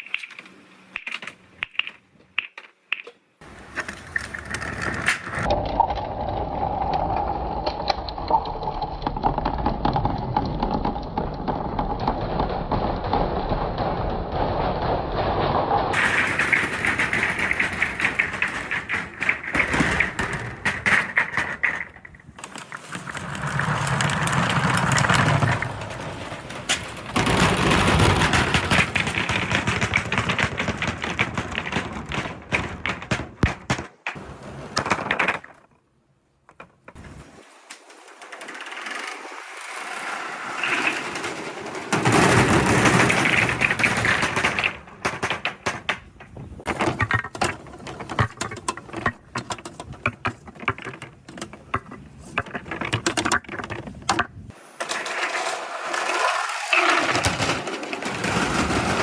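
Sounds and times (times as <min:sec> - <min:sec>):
balls rattling down wooden track: 0:00.0 - 0:35.8, 0:36.4 - 0:37.0, 0:37.7 - 0:59.0.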